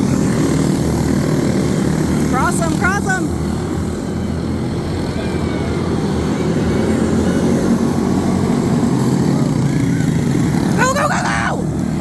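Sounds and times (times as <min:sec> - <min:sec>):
kart engines droning: 0:00.0 - 0:12.0.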